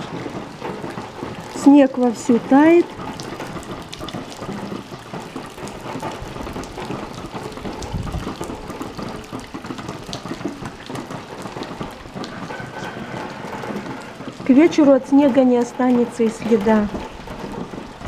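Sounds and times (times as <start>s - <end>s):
meltwater dripping and trickling: 0.0s - 18.0s.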